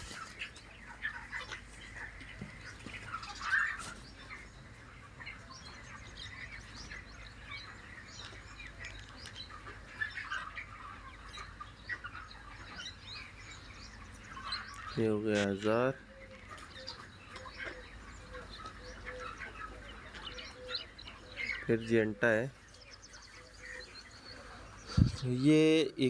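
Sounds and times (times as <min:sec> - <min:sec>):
chicks cheeping: 0:00.0 - 0:26.0.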